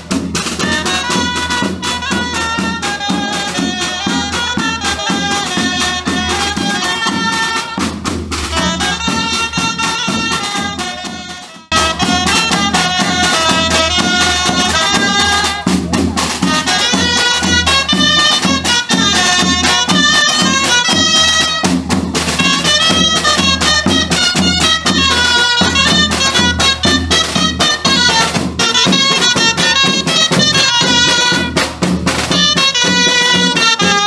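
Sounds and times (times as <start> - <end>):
bass drum: 0.0 - 33.9
snare drum: 0.0 - 34.0
trumpet melody: 0.0 - 34.0
woodwind melody: 0.0 - 34.0.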